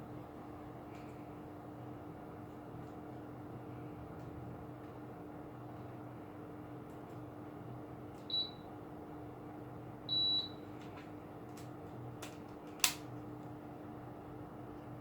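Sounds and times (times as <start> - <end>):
air conditioner beeping: 0.0 - 15.0
air conditioner running hum: 0.0 - 15.0.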